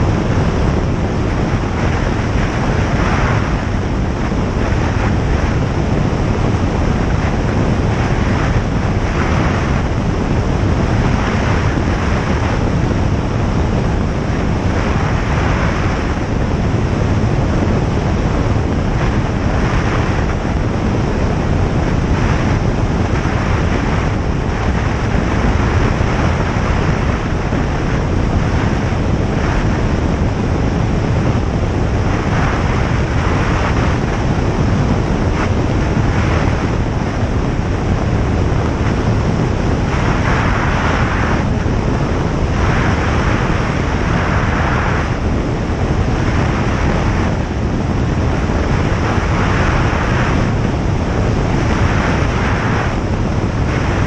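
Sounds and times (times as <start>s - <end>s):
light aircraft engine drone: 0.0s - 54.0s
rushing airflow: 0.0s - 54.0s.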